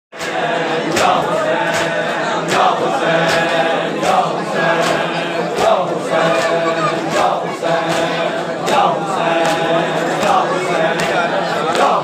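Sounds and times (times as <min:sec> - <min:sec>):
men chanting together: 0:00.2 - 0:12.0.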